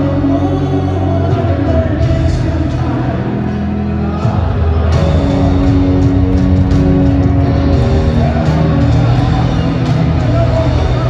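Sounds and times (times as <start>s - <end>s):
piano: 0.0s - 11.0s
rock band playing power ballad: 0.0s - 11.0s.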